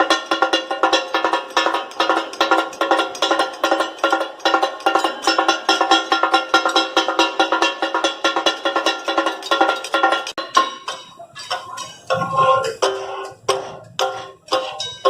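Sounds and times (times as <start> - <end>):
steel spatulas clanging on griddle: 0.0 - 15.0.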